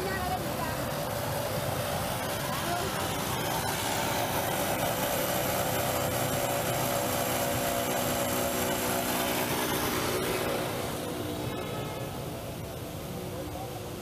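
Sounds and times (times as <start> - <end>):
street traffic engines: 0.0 - 14.0.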